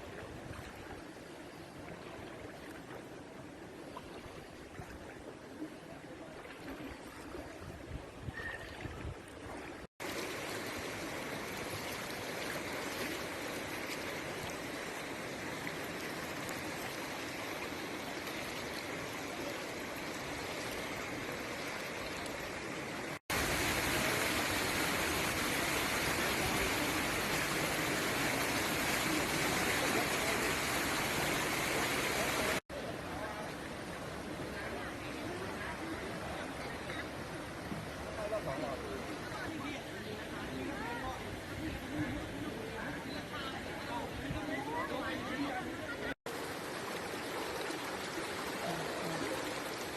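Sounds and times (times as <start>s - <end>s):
floodwater rushing: 0.0s - 49.9s.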